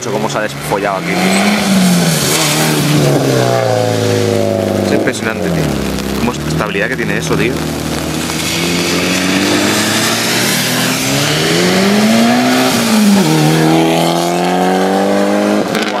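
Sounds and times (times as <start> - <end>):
car engine accelerating hard: 0.0 - 16.0
hiss of rain and tyre spray: 0.2 - 16.0.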